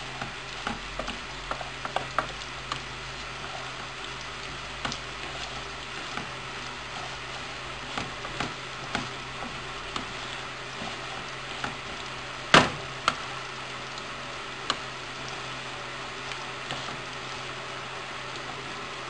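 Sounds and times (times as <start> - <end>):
rice sizzling in oil: 0.0 - 19.0.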